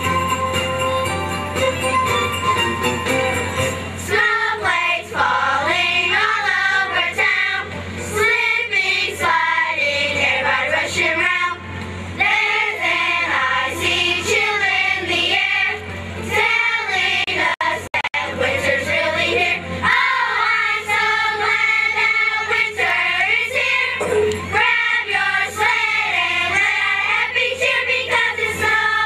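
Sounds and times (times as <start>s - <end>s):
children's choir singing: 4.0s - 29.0s.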